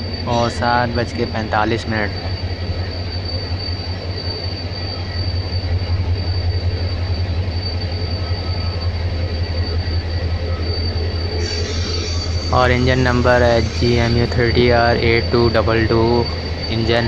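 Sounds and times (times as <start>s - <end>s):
locomotive engine drone: 0.0s - 17.0s
rumble of rolling coaches: 0.0s - 17.0s
thin steady high tone: 0.0s - 17.0s.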